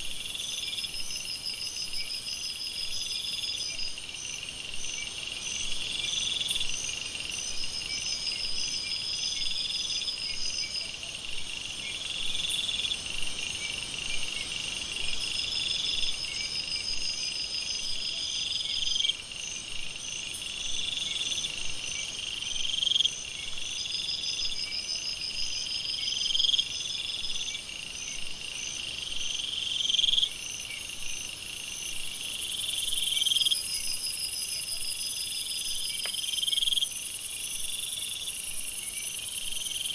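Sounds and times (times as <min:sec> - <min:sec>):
insects and frogs chirping: 0:00.0 - 0:39.9.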